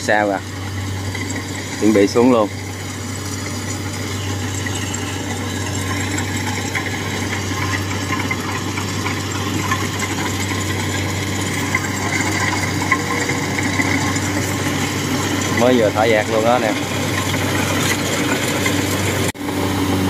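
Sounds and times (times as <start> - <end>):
combine harvester diesel engine: 0.0 - 20.0.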